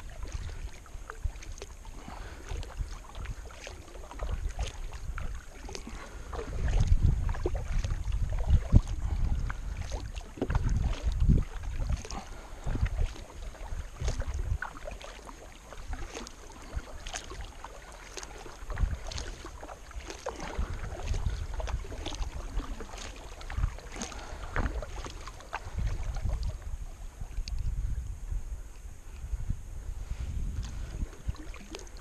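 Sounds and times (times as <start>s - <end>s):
paddle splashing in water: 0.0s - 27.8s, 30.0s - 32.0s
wind rumbling on microphone: 0.0s - 32.0s.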